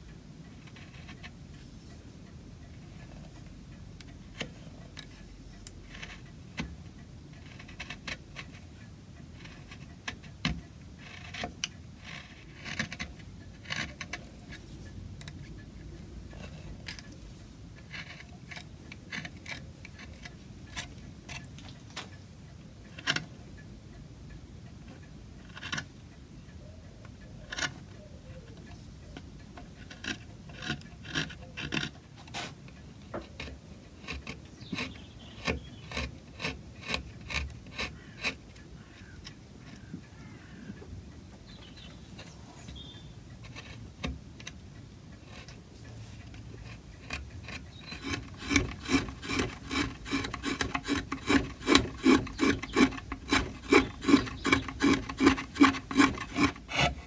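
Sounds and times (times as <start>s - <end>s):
gouge scraping wood: 0.5s - 2.0s, 2.7s - 22.1s, 29.6s - 39.9s, 41.5s - 44.6s, 45.2s - 57.0s.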